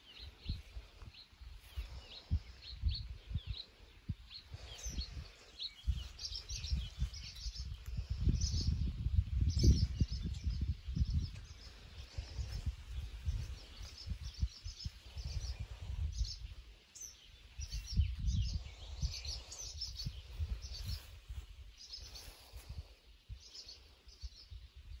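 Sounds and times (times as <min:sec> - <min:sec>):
bird chirping: 0:00.0 - 0:22.7
low rumble on microphone: 0:00.1 - 0:16.7, 0:17.6 - 0:23.4.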